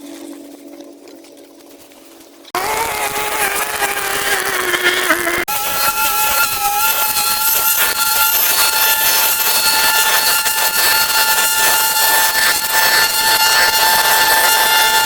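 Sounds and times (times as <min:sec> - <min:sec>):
power tool whining: 0:02.6 - 0:15.0.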